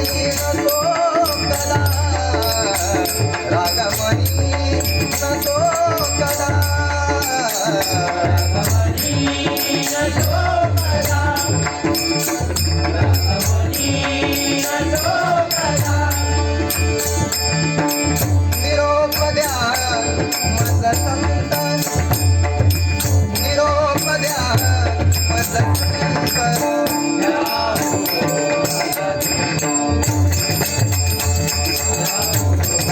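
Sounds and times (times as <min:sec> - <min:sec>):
jingling rattling percussion: 0:00.0 - 0:32.9.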